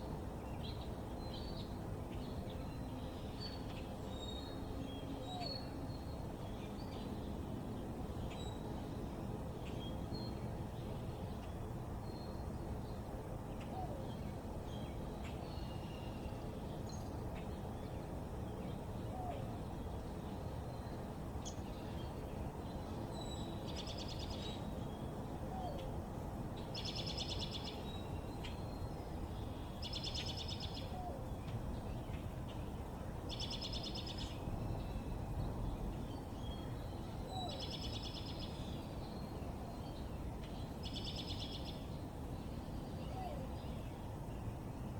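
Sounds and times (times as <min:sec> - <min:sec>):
low background noise: 0:00.0 - 0:44.9.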